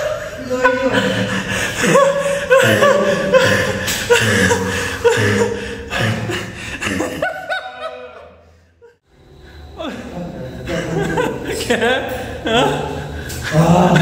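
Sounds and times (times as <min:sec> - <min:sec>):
person laughing: 0:00.0 - 0:09.0, 0:10.6 - 0:14.0.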